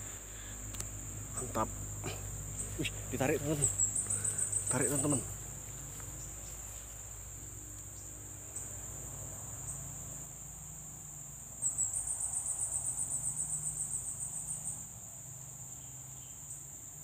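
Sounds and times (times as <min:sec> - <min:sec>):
insect pulsing chirp: 0:00.0 - 0:17.0
insects shrilling: 0:00.0 - 0:17.0.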